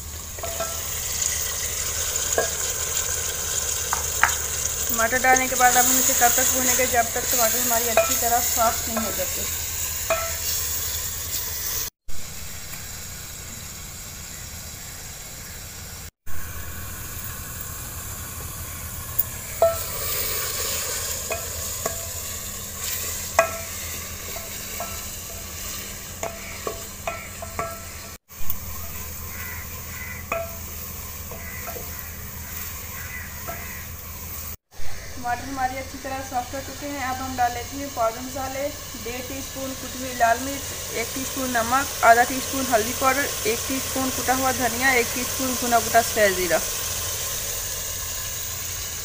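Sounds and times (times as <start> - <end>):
vegetables sizzling in hot fat: 0.0 - 49.0.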